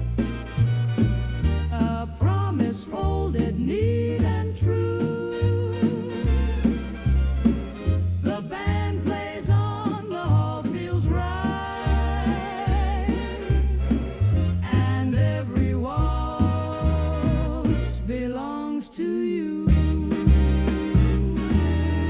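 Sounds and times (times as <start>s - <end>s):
swing dance-band music: 0.0s - 18.5s, 19.7s - 22.0s.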